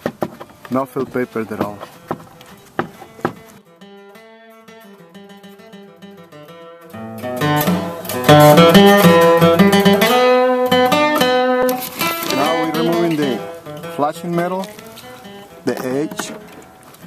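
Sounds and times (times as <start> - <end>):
plucked guitar music: 0.6 - 17.0.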